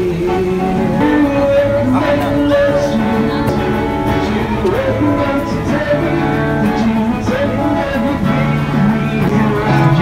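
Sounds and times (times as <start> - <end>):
song with sung melody: 0.0 - 10.0.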